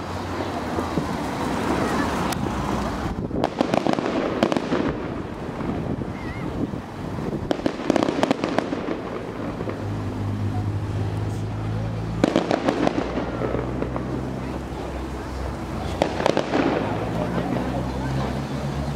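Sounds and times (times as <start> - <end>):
background rumble: 0.0 - 18.9
fireworks crackling: 0.0 - 18.9.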